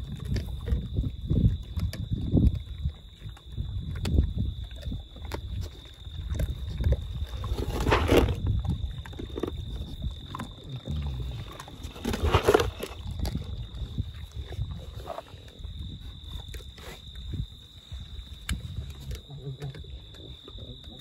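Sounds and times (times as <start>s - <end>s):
peccaries feeding: 0.0s - 21.0s.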